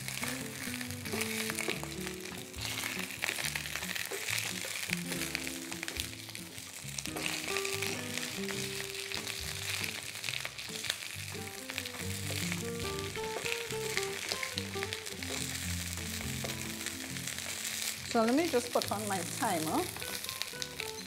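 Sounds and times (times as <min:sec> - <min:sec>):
background music with held notes: 0:00.0 - 0:21.0
sausages sizzling in oil: 0:00.0 - 0:21.0.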